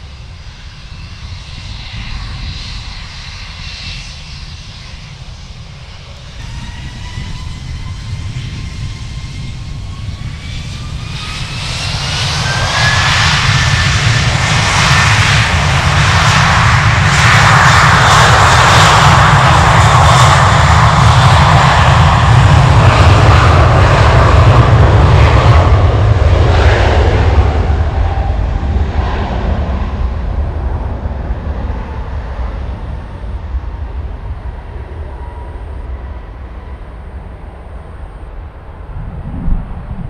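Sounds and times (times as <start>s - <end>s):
jet engines at takeoff thrust: 0.0s - 40.0s.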